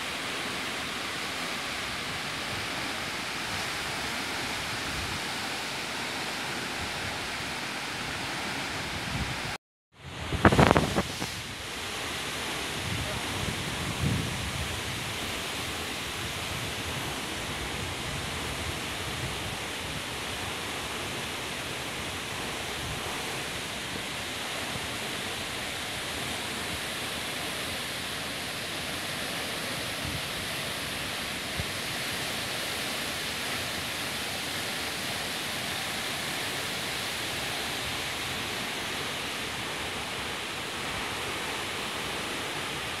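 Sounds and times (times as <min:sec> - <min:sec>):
waterfall rushing over rock: 0:00.0 - 0:09.6, 0:10.2 - 0:43.0.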